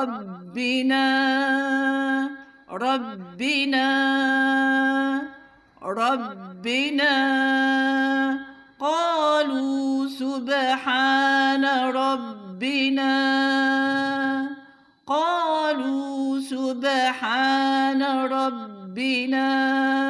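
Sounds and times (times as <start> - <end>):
woman chanting melodically: 0.0 - 20.0.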